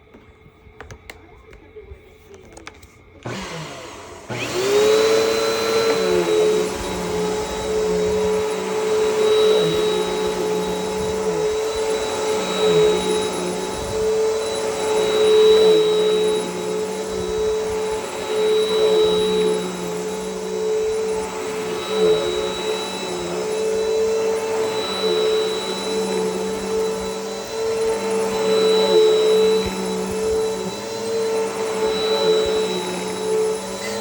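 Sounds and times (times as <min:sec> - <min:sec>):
vacuum cleaner motor whining: 0:00.0 - 0:34.0.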